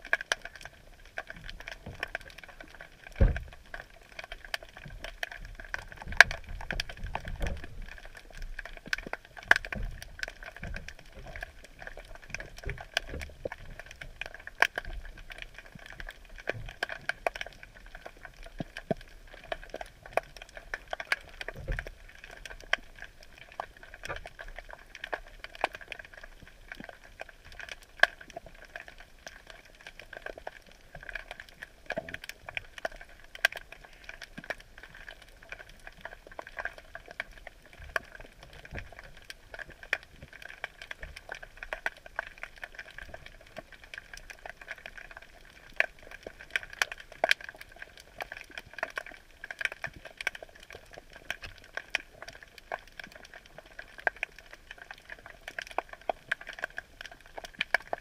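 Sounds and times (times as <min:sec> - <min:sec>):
constant hiss: 0:00.0 - 0:58.0
underwater crackling and clicking: 0:00.0 - 0:58.0.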